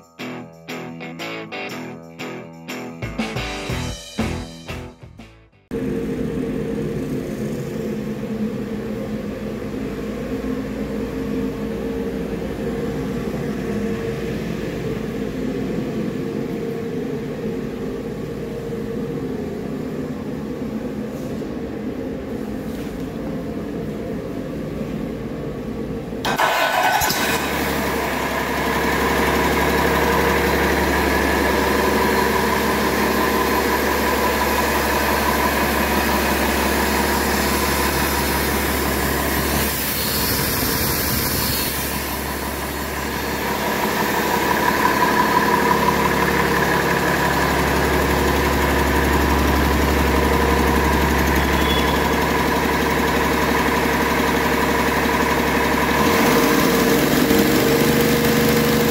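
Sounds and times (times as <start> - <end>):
diesel engine starting and idling: 5.6 - 58.9.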